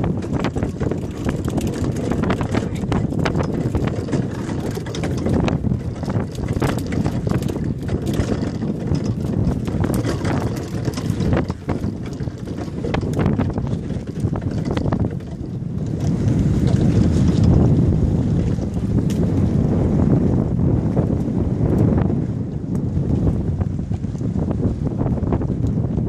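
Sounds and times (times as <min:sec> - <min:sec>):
rumble of boat and water: 0:00.0 - 0:26.0
wind buffeting microphone: 0:00.0 - 0:26.0.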